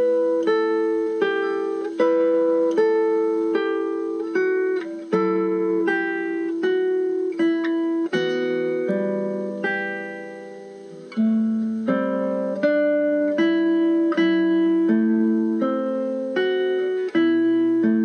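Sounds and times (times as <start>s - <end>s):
acoustic guitar picking: 0.0s - 18.0s.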